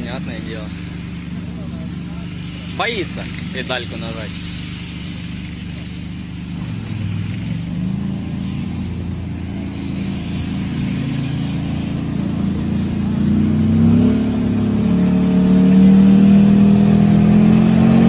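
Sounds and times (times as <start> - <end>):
tank engine running and revving: 0.0 - 18.0.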